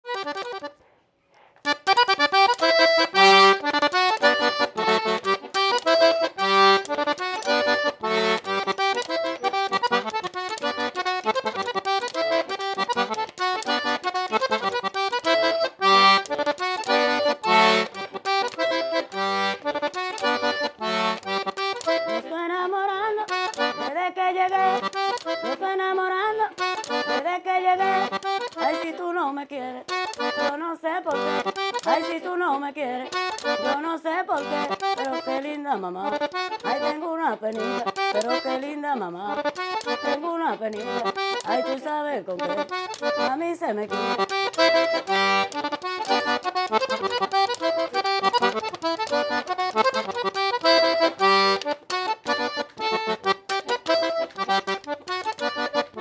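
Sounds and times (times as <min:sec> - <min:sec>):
accordion playing a tune: 0:00.0 - 0:00.8, 0:01.6 - 0:56.0.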